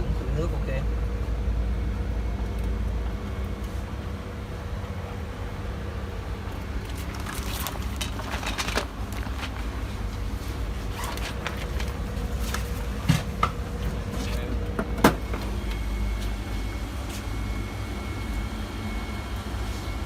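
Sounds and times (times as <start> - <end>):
band sealer motor hum: 0.0 - 20.0
faint machine whine: 0.0 - 20.0.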